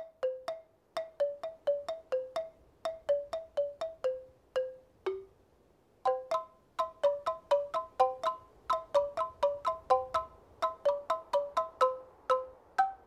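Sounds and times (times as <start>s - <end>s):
mallet instrument tune: 0.0s - 5.3s, 6.1s - 13.0s.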